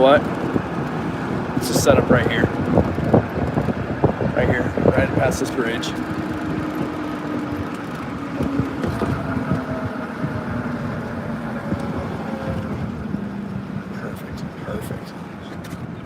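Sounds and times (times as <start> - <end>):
car engine slowing down: 0.0 - 16.0
road noise: 0.0 - 16.0.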